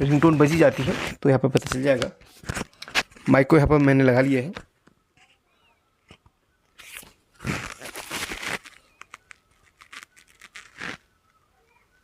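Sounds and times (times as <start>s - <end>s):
crinkling handling noise: 0.0s - 5.4s, 6.0s - 11.5s.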